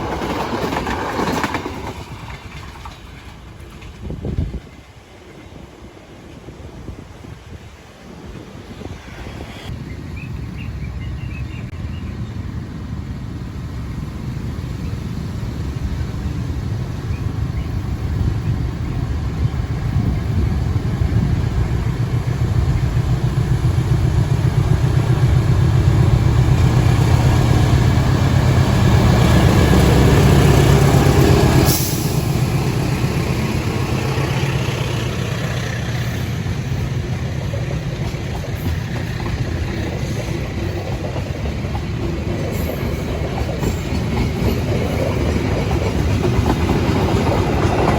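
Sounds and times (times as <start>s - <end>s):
train engine rumble: 0.0s - 47.9s
train rolling rumble: 0.0s - 47.9s.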